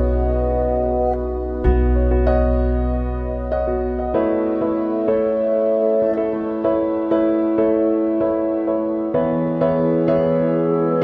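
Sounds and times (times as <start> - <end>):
soft new-age keyboard music: 0.0 - 11.0.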